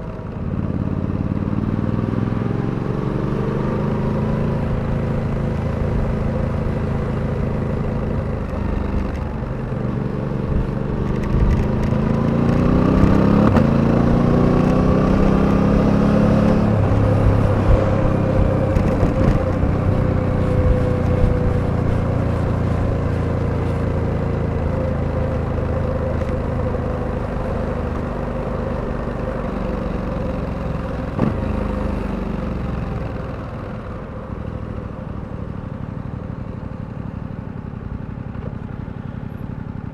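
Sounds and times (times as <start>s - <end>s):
motorcycle engine revving: 0.2s - 39.9s.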